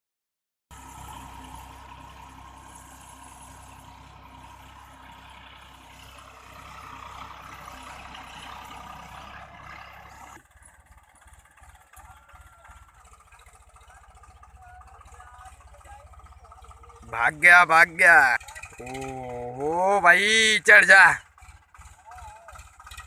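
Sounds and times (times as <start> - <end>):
tractor engine running: 0.7 - 23.0.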